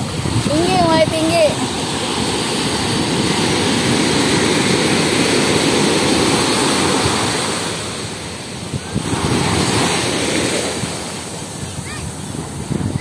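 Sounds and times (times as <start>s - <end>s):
sea waves breaking on shore: 0.0s - 13.0s.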